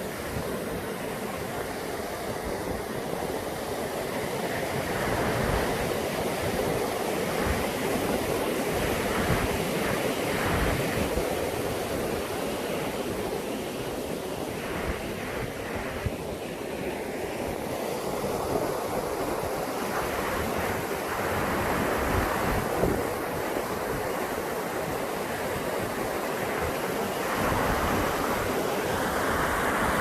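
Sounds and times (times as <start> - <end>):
river water rushing over waterfall: 0.0 - 30.0
wind buffeting microphone: 0.1 - 30.0.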